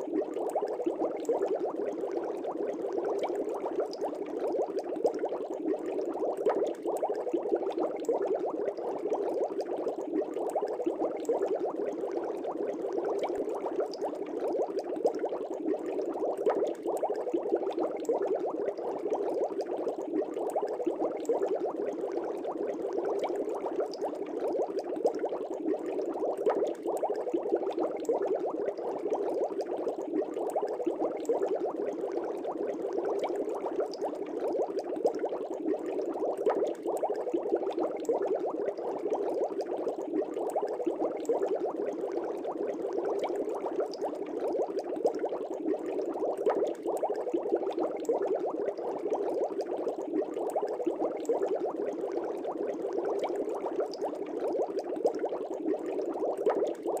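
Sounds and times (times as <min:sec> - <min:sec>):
air bubbling in fish tank: 0:00.0 - 0:57.0.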